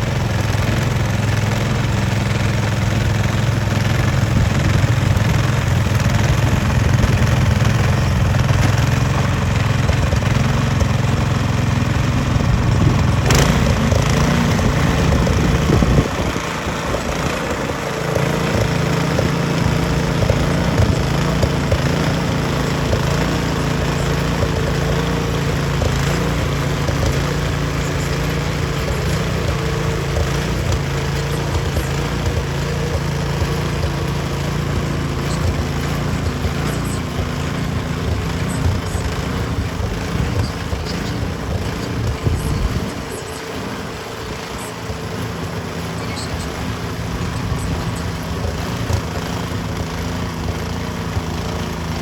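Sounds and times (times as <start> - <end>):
broad rushing noise: 0.0 - 52.0
snowblower engine running: 0.0 - 52.0.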